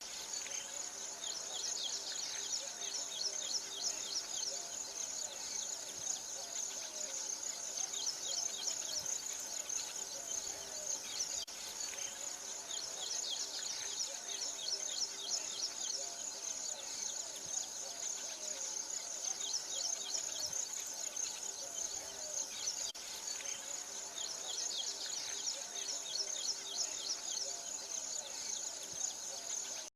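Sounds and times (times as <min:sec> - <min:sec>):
insects chirping: 0:00.0 - 0:29.9.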